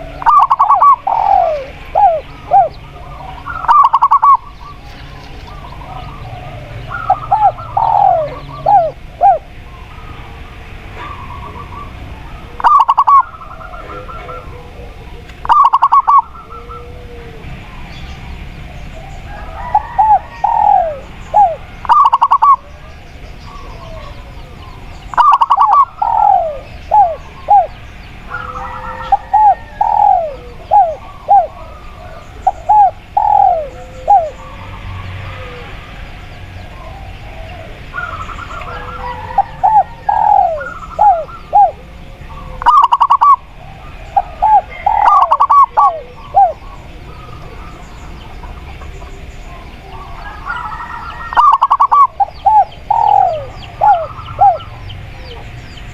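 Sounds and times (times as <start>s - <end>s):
doves cooing: 0.0s - 55.9s
faint forest background: 0.0s - 55.9s.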